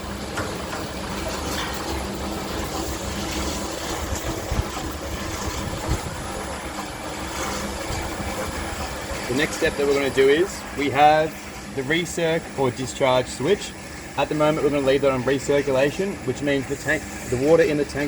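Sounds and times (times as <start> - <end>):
mechanical hum of mixer drives: 0.0 - 18.0.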